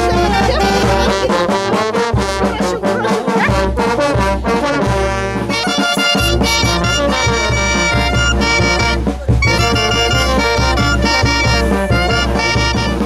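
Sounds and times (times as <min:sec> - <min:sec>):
bass drum beat: 0:00.0 - 0:13.0
saxophones and trumpets: 0:00.0 - 0:13.0.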